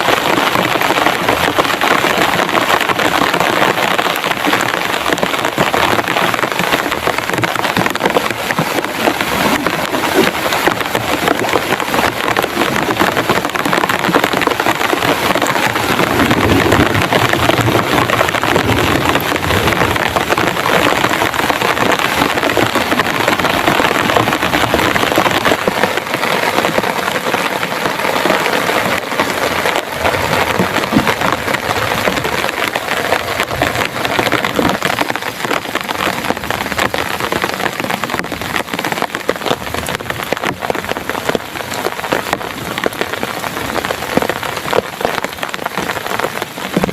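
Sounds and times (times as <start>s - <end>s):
heavy rain on plastic tarp: 0.0s - 46.9s.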